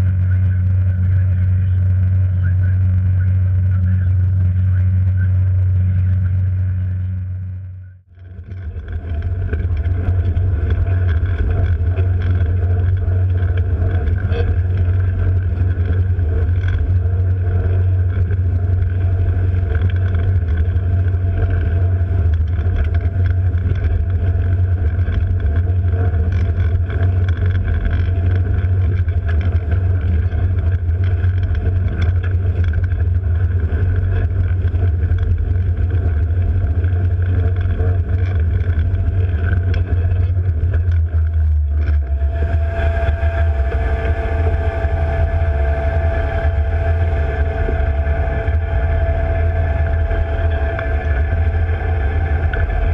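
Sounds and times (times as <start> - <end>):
boat diesel engines droning: 0.0 - 52.9
water rushing along hull: 8.4 - 52.9.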